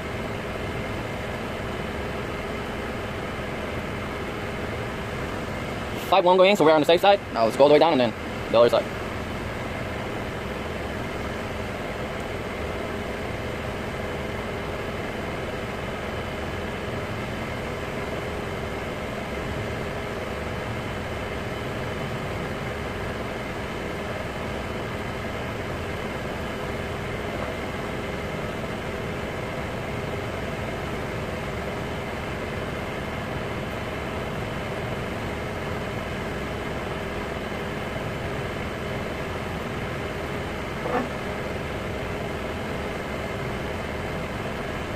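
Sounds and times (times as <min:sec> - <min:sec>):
steady machine hum: 0:00.0 - 0:44.9.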